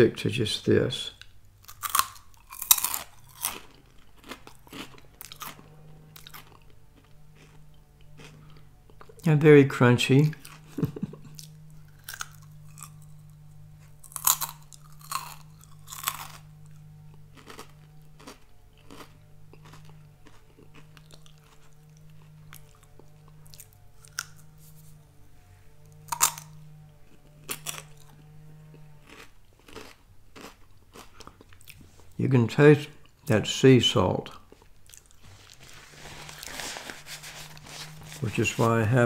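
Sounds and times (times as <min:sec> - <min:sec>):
person chewing crunchy snack: 0:01.2 - 0:09.4, 0:10.2 - 0:25.0, 0:25.8 - 0:32.2, 0:34.3 - 0:38.8.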